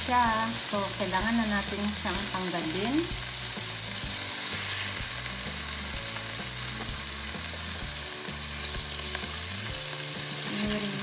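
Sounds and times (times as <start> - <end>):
scallops sizzling in oil: 0.0 - 11.0.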